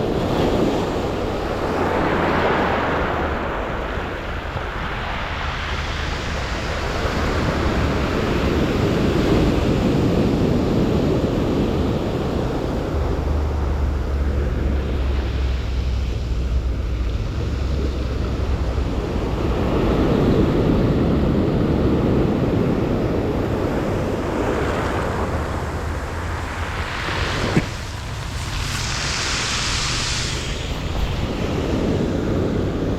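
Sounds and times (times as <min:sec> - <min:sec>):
surf breaking on beach: 0:00.0 - 0:32.9
wind buffeting microphone: 0:00.0 - 0:32.9.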